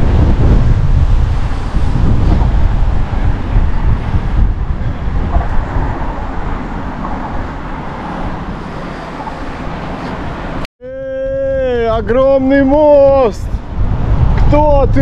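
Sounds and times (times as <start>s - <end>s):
wind buffeting microphone: 0.0s - 10.6s, 11.2s - 15.0s
road traffic noise: 0.0s - 11.7s, 12.4s - 14.7s.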